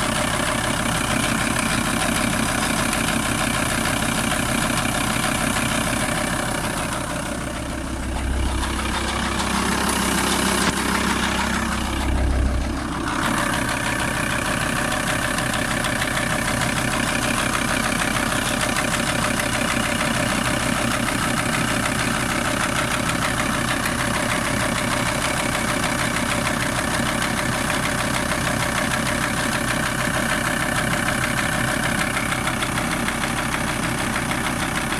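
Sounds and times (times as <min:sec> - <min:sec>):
diesel engine idling with clatter: 0:00.0 - 0:34.9.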